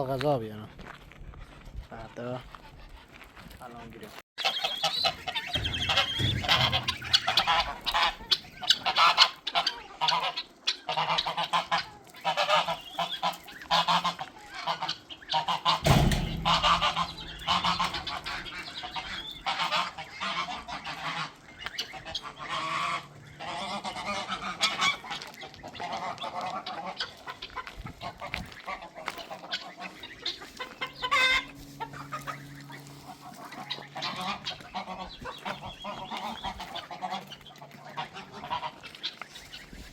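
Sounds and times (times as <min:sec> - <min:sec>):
geese honking: 0:04.4 - 0:39.9.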